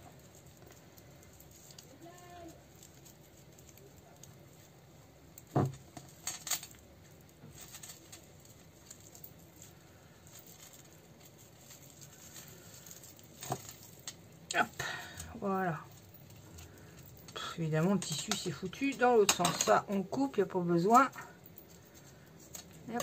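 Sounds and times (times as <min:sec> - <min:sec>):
hands rustling fabric: 0:00.0 - 0:23.0.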